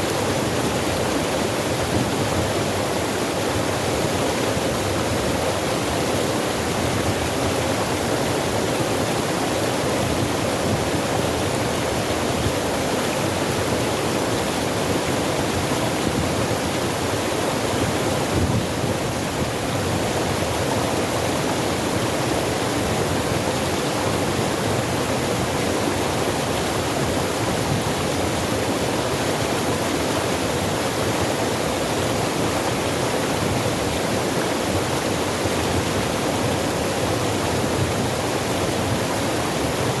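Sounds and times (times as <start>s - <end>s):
water rushing over rocks: 0.0s - 40.0s.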